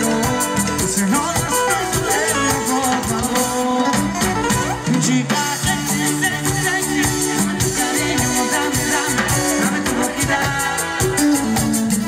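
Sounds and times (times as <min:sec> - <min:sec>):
shaker percussion: 0:00.0 - 0:04.7, 0:05.4 - 0:12.0
bass guitar: 0:00.0 - 0:12.0
keyboards: 0:00.0 - 0:12.0
live band playing: 0:00.0 - 0:12.0
man singing: 0:00.0 - 0:12.0.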